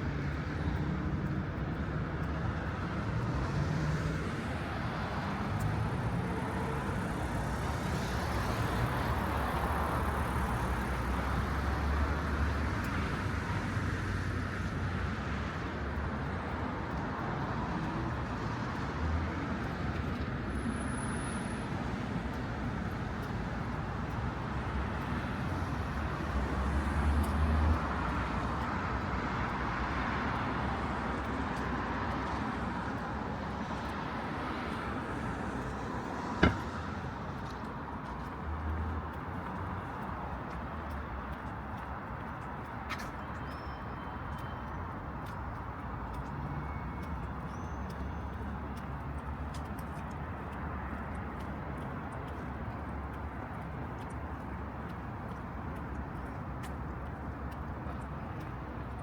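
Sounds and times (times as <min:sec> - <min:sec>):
cars passing on street: 0:00.0 - 0:59.0.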